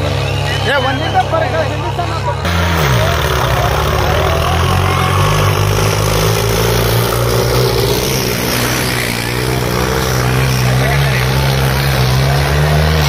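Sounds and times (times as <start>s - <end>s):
tractor engines droning: 0.0s - 13.0s.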